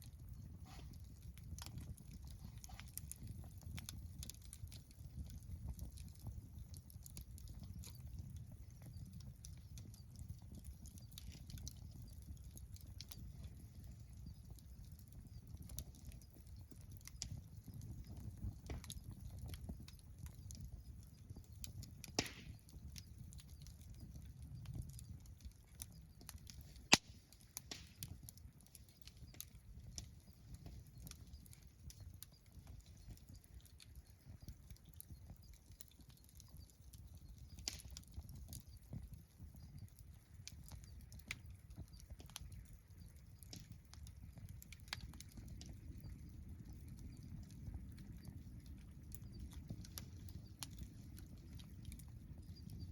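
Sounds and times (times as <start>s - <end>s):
campfire crackling: 0.0s - 52.9s.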